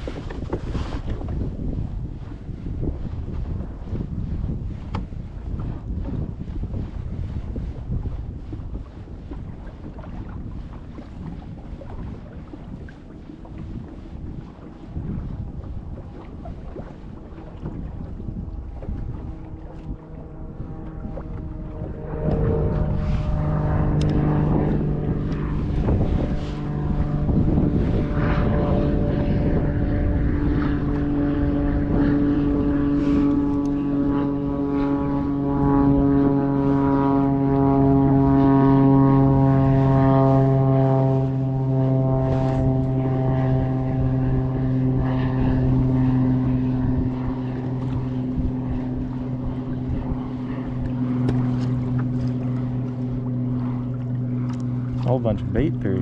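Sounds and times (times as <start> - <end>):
passing engine drone: 0.0 - 56.0.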